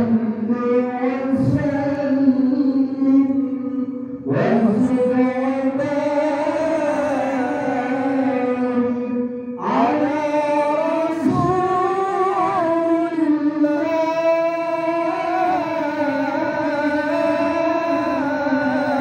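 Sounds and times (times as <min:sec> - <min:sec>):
man reciting melodiously: 0:00.0 - 0:19.0.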